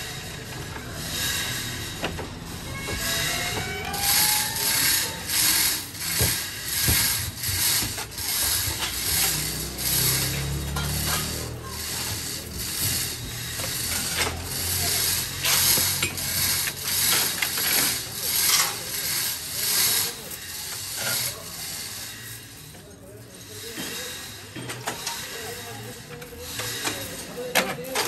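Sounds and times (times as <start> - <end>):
rasping mechanical strokes: 0.0 - 28.0.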